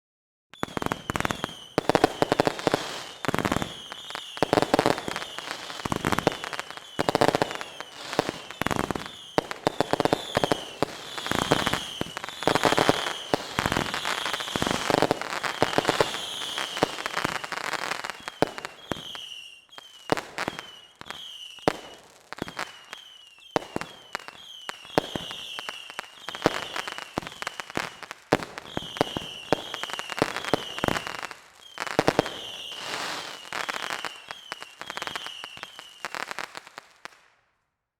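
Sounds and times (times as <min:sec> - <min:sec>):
fireworks bangs and pops: 0:00.5 - 0:37.4
whistling fireworks: 0:00.5 - 0:37.5.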